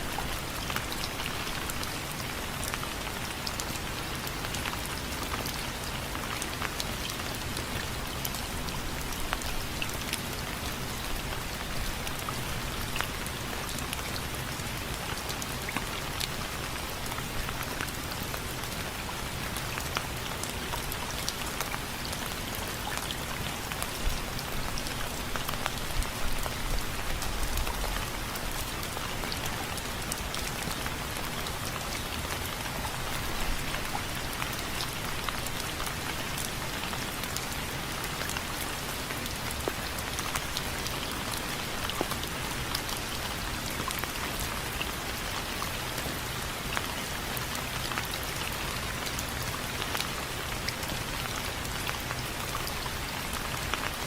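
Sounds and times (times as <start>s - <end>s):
rain on window frames: 0.0s - 54.0s.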